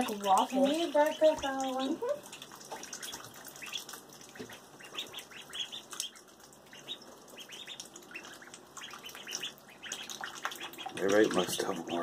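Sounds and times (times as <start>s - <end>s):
ducklings peeping: 0.0s - 12.0s
light water splashing: 0.0s - 12.0s.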